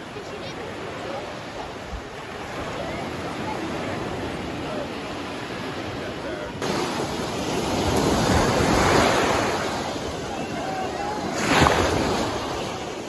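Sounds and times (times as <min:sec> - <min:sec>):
waves breaking on sandy beach: 0:00.0 - 0:13.0.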